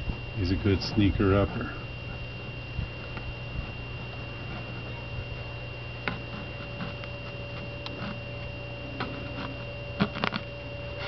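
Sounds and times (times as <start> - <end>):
background hum: 0.0 - 11.0
faint high whine: 0.0 - 11.0.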